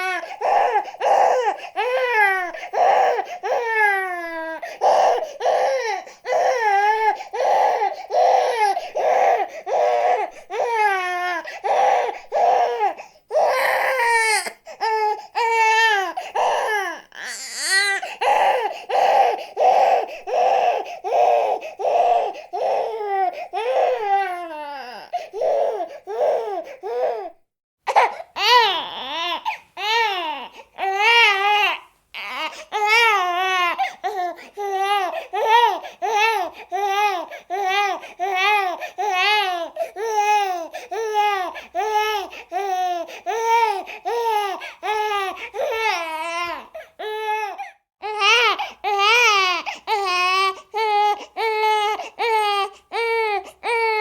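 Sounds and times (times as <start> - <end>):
baby crying: 0.0 - 54.0.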